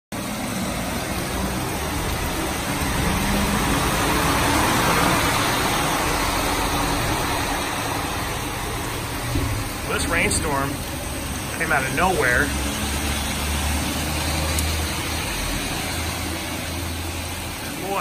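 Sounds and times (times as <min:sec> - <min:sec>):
steady rain on a street: 0:00.1 - 0:18.0
lorry driving past on wet road: 0:00.2 - 0:18.0.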